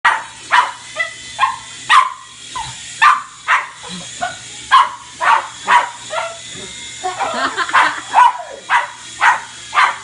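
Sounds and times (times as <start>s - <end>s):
dog barking: 0.1s - 2.2s, 3.0s - 6.4s, 7.2s - 10.0s.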